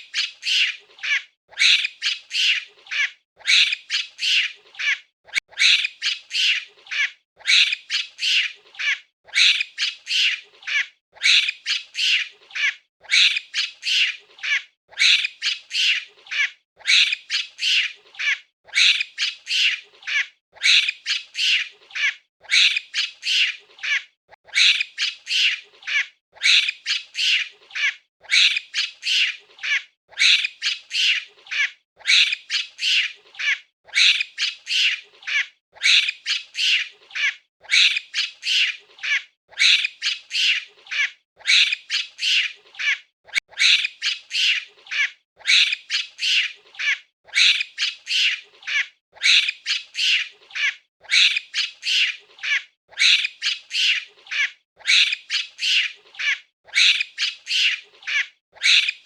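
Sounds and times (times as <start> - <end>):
monkey calling: 0.0 - 59.0.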